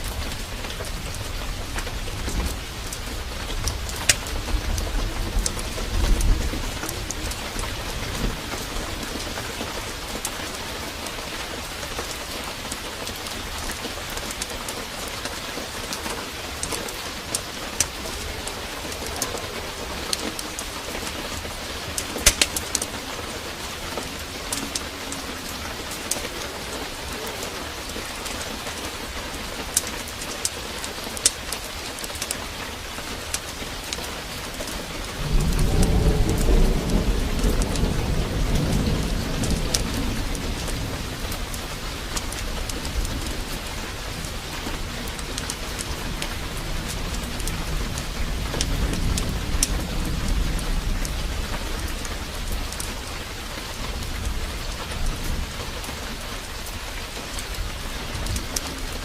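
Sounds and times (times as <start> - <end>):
thunder rumbling: 0.0 - 30.6, 32.7 - 59.0
fireplace fire crackling: 0.0 - 59.0
heavy rain hissing: 0.0 - 59.0.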